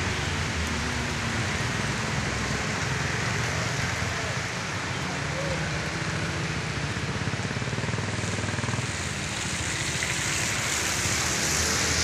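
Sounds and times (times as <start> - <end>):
rain falling: 0.0 - 4.8, 5.7 - 12.0
low traffic rumble: 0.0 - 12.0
tyres hissing on wet road: 0.0 - 12.0.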